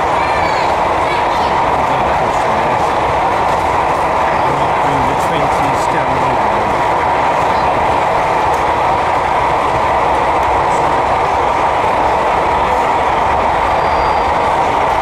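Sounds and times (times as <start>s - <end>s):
exhibition hall hubbub: 0.0s - 15.0s
model train running: 0.0s - 15.0s.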